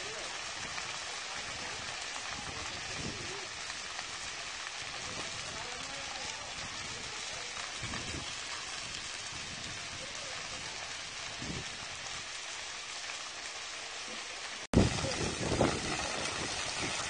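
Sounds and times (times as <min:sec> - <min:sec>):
dry grass crackling in fire: 0:00.0 - 0:17.0.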